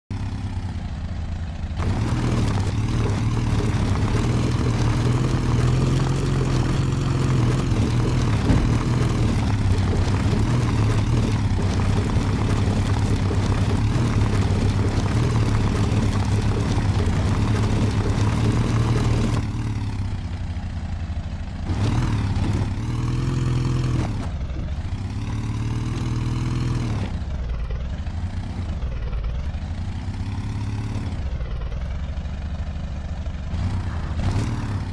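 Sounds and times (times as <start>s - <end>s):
off-road vehicle engine revving: 0.1s - 34.9s.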